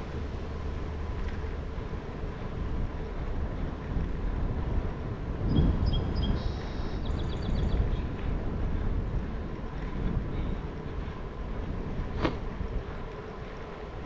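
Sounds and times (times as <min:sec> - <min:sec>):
low rumble of bicycle ride: 0:00.0 - 0:14.0
wind buffeting microphone: 0:00.0 - 0:14.0.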